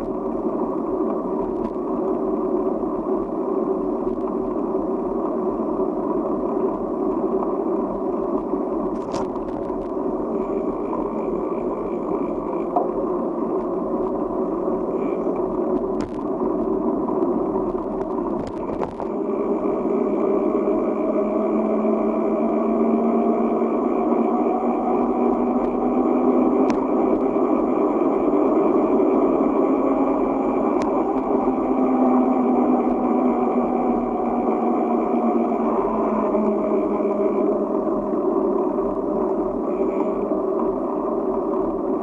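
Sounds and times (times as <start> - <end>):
road noise of tyres and air: 0.0 - 42.0.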